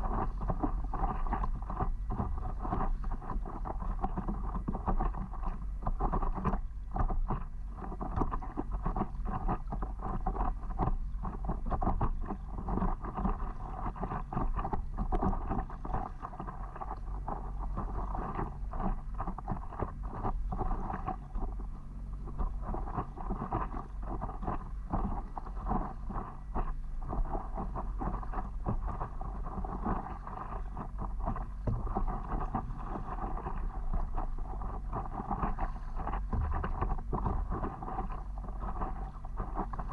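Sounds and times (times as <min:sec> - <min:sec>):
water splashing and lapping: 0:00.0 - 0:39.9
wind rumbling on microphone: 0:00.0 - 0:39.9.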